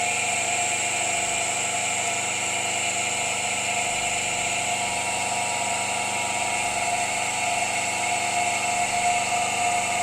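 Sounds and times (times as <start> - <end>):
electric motor humming with whine: 0.0 - 10.0.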